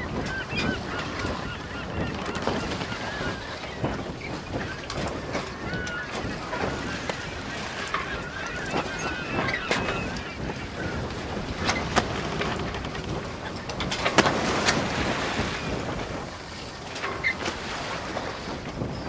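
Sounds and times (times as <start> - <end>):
boat engine rumble: 0.0 - 19.0
water birds calling: 0.0 - 19.0.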